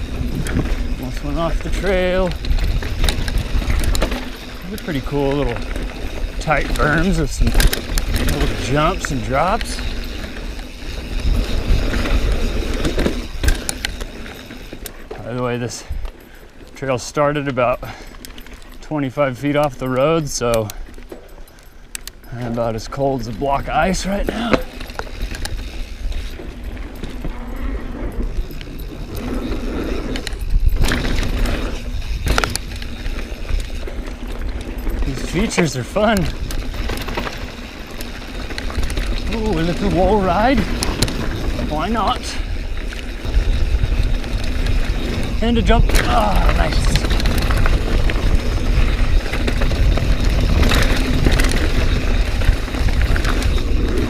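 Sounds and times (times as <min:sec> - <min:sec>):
wind rumble on microphone: 0:00.0 - 0:14.8, 0:23.6 - 0:54.0
bike rattling: 0:00.0 - 0:54.0
tyres on dirt: 0:00.0 - 0:54.0.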